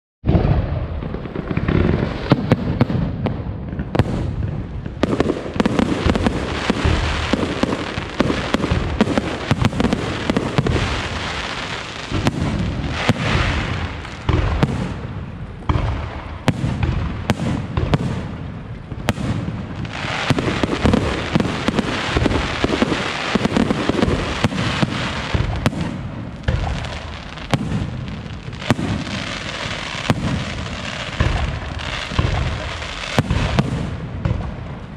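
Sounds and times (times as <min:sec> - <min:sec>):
firework shells booming: 0:00.2 - 0:34.8
fireworks crackling: 0:00.3 - 0:34.9.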